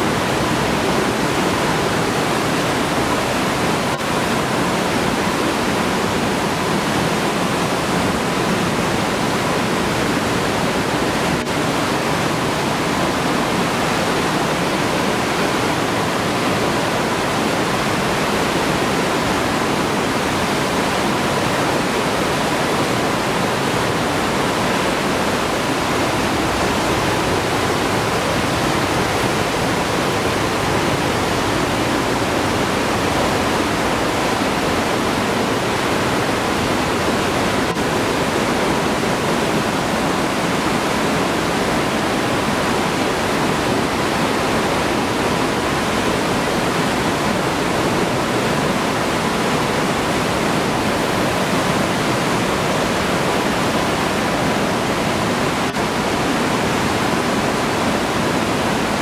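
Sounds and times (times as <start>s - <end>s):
mountain torrent roaring: 0.0s - 59.0s.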